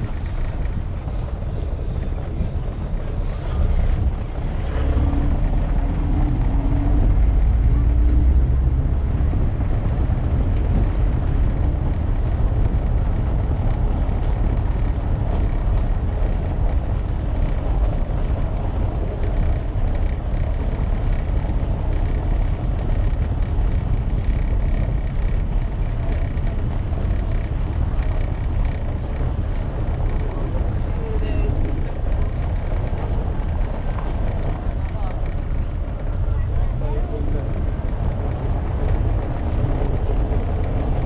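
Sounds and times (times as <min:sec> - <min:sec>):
tyres rumbling on cobblestones: 0:00.0 - 0:41.0.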